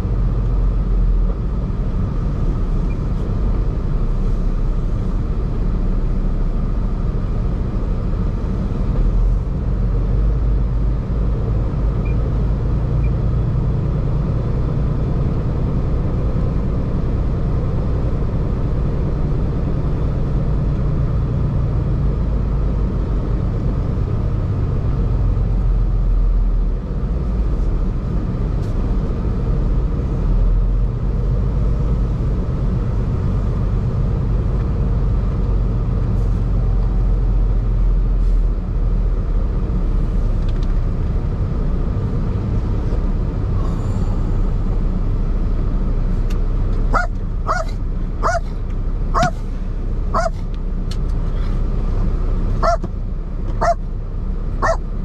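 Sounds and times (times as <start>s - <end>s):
truck diesel engine rumble: 0.0s - 55.0s.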